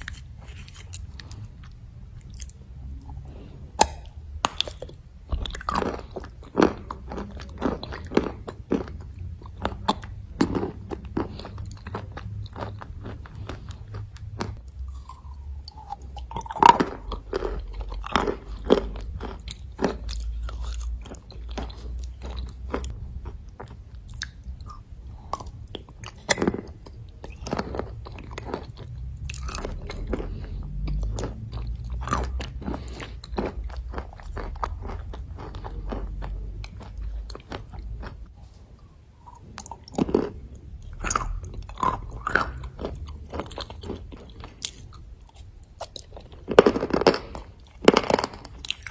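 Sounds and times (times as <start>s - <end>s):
person chewing and crunching clay: 0.0s - 48.9s.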